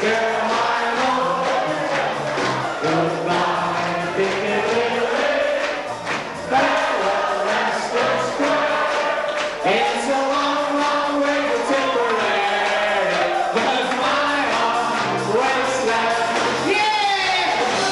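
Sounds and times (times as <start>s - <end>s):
group singing old recording: 0.0s - 17.9s.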